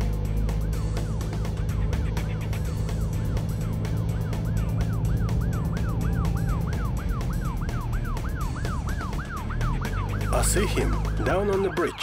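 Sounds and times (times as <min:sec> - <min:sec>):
police siren sweeping: 0:00.3 - 0:12.0.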